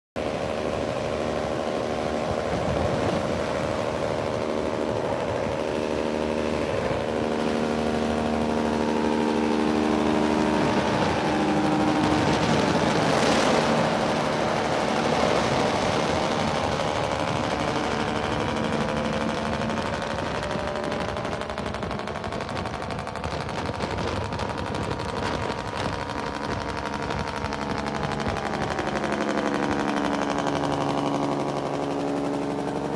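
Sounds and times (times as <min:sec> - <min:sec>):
truck diesel engine: 0:00.2 - 0:32.9.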